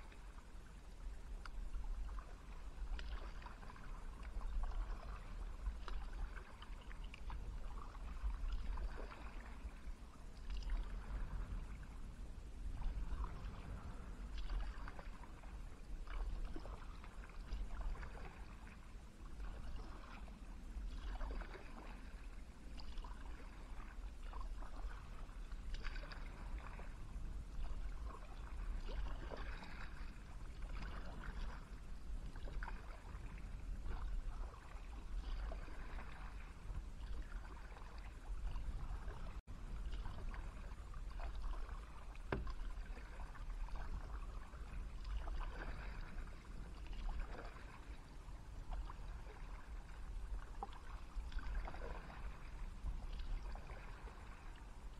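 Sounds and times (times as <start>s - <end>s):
paddle splashing in water: 0.0s - 12.0s, 12.6s - 54.9s
steady low rumble: 0.0s - 54.9s.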